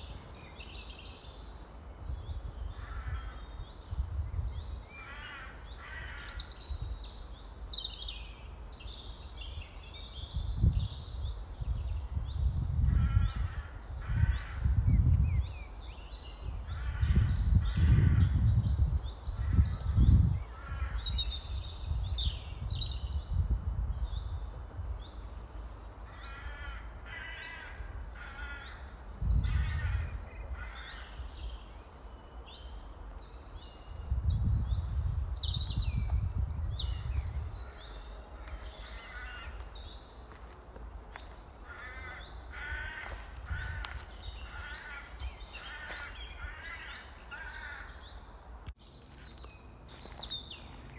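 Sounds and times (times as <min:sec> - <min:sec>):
birds calling and chirping: 0:00.0 - 0:50.9.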